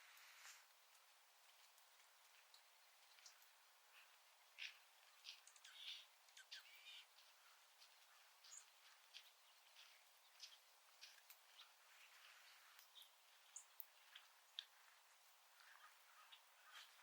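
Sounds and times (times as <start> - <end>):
background hiss: 0.0 - 17.0
small birds chirping: 1.5 - 17.0.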